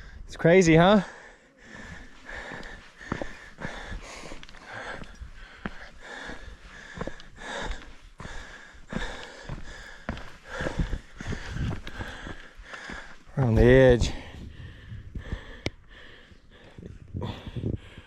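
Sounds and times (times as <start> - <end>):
person breathing hard: 1.0 - 13.4, 14.0 - 18.0.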